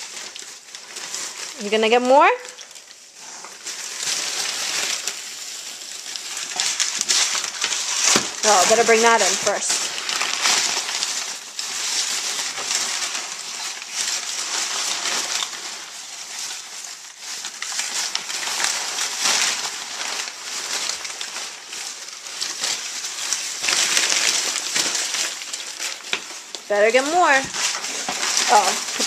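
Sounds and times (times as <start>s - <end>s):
paper rustling and crinkling: 0.0s - 29.0s.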